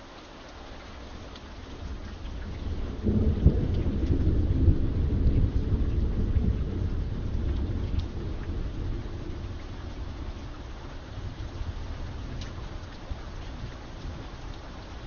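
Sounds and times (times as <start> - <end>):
steady rain: 0.0 - 15.0
thunder rumbling: 1.1 - 15.0.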